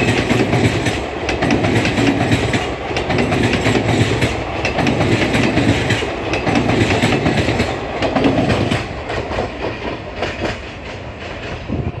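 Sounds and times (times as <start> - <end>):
train rumble: 0.0 - 12.0
train wheels clattering over rail joints: 0.0 - 12.0.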